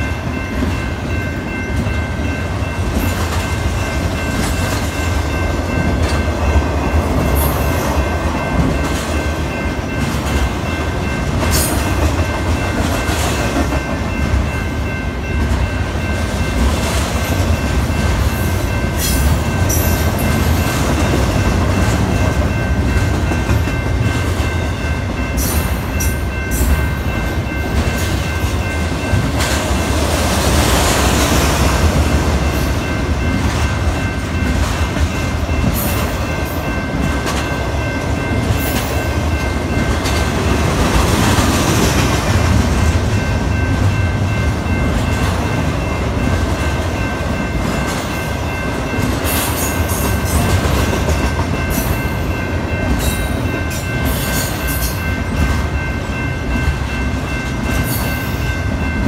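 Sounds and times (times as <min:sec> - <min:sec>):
crossing warning bell: 0:00.0 - 0:59.0
train wheels rumbling on rail: 0:00.0 - 0:59.0.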